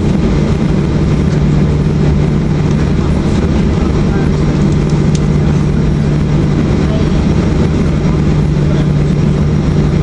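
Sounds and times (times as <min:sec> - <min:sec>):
jet engines droning: 0:00.0 - 0:10.0.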